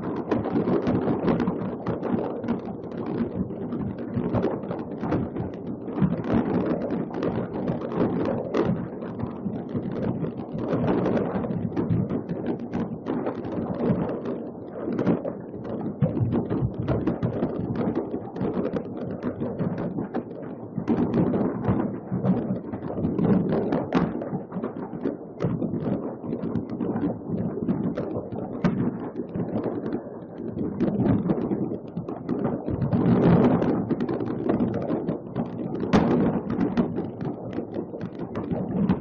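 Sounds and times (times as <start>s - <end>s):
distant fireworks crackling: 4.2s - 39.0s.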